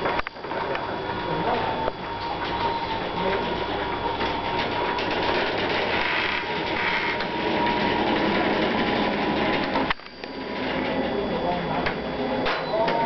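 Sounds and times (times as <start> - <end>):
faint steady whine: 0.0 - 7.9, 8.8 - 13.0
motorised overhead door running: 0.0 - 13.0.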